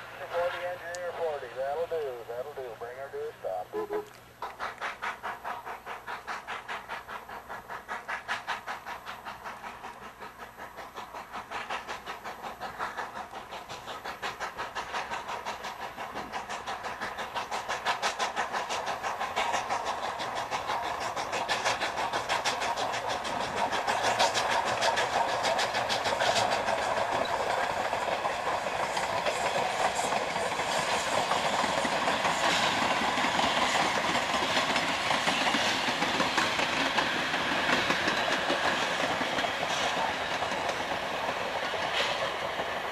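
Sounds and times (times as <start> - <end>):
steam locomotive chuffing: 0.0 - 42.9.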